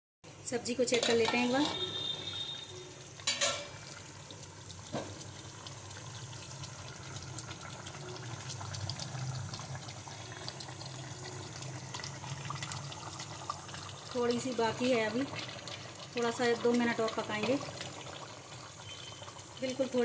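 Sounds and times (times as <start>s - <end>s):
curry bubbling and popping: 0.6s - 20.0s.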